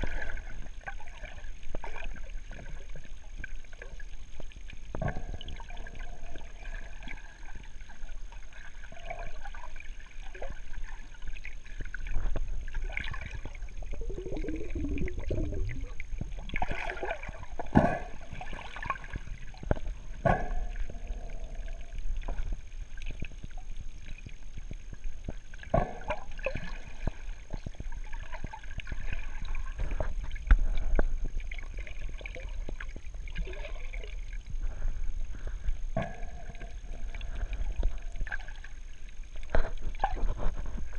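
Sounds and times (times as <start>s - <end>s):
muffled underwater rumble: 0.0s - 40.9s
water bubbling and gurgling: 0.0s - 40.9s.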